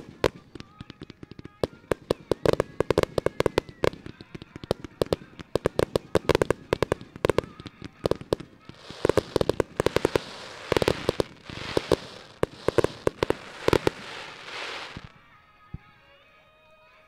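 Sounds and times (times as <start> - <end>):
firework shell bursts: 0.0 - 15.2
crackling hiss: 0.0 - 15.3.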